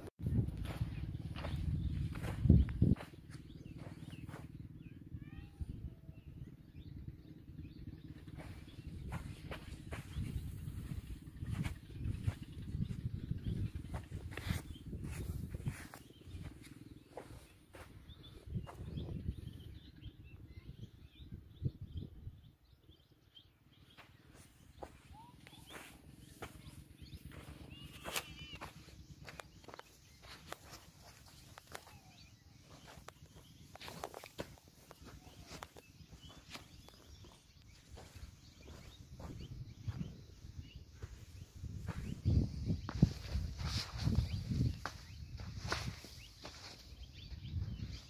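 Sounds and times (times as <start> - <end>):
footsteps on loose soil: 0.0 - 4.6, 8.1 - 19.4, 23.9 - 48.0
wind rumbling on microphone: 0.0 - 23.0, 24.2 - 48.0
faint bird chirps: 0.2 - 48.0.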